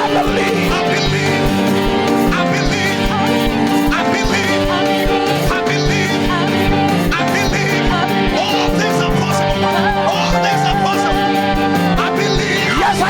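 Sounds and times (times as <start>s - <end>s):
worship band music: 0.0s - 13.0s.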